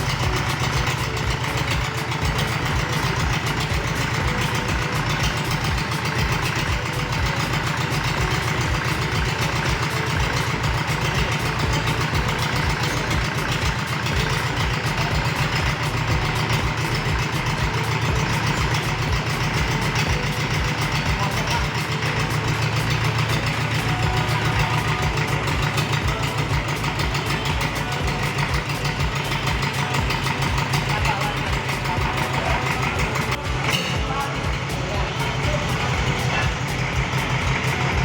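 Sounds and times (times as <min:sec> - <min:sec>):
forklift diesel engine idling: 0:00.0 - 0:38.0.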